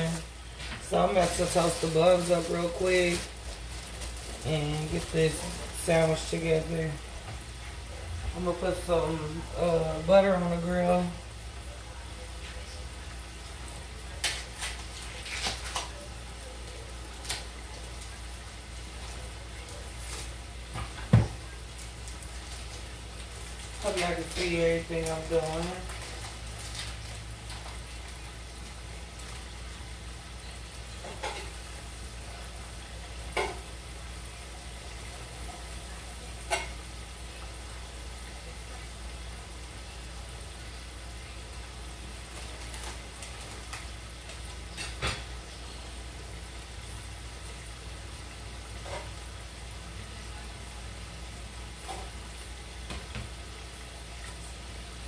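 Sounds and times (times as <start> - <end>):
butter sizzling on a grill: 0.0 - 55.0.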